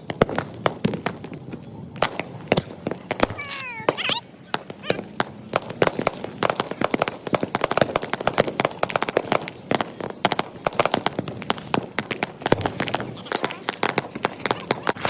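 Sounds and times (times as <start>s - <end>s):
firecrackers popping and banging: 0.0s - 15.0s.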